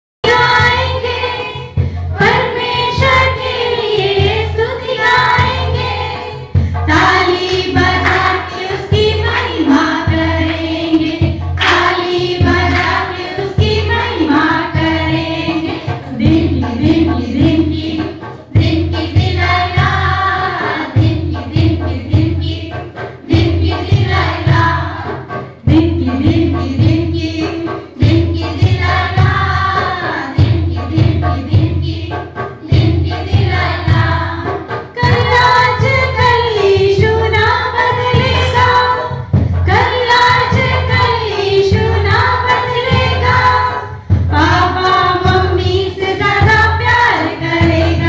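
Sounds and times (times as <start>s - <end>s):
choir singing: 0.2s - 48.0s.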